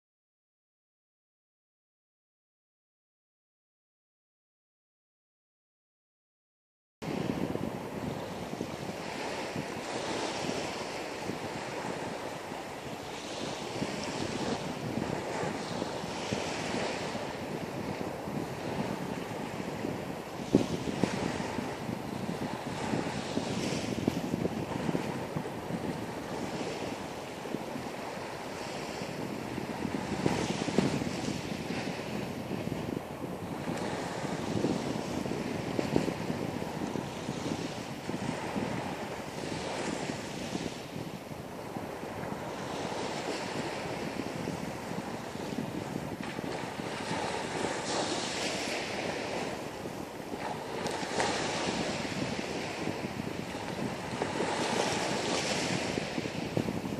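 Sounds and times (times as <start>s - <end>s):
wind buffeting microphone: 7.0s - 56.9s.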